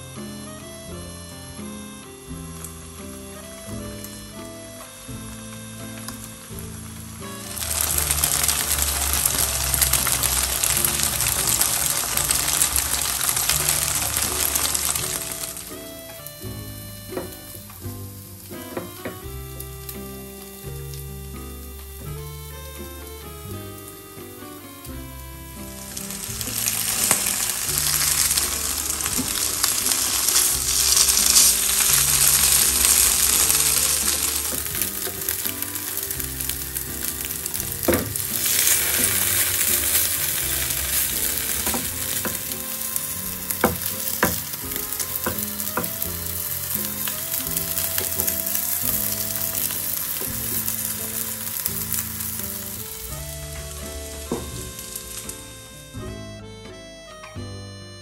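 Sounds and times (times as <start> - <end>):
patties sizzling in a pan: 1.5 - 55.6.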